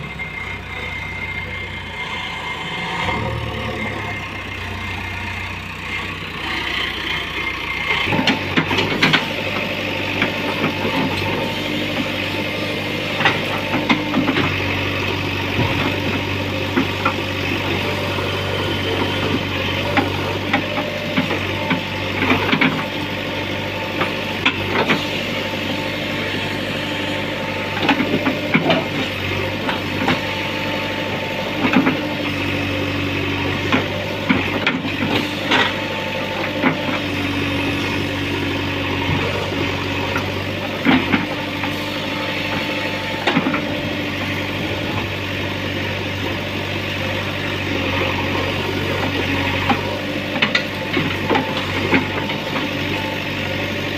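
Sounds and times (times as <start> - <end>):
diesel engine running: 0.0 - 53.9
high engine whine: 0.0 - 53.9.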